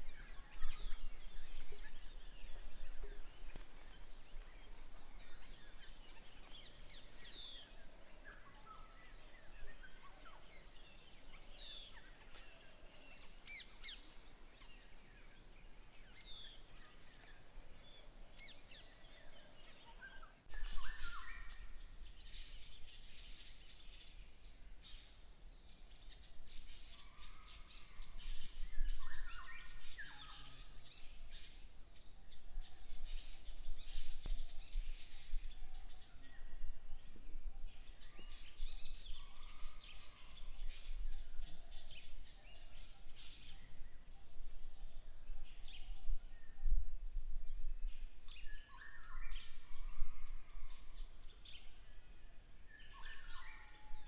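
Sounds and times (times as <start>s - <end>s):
bird calls and chirps: 0.0s - 54.0s.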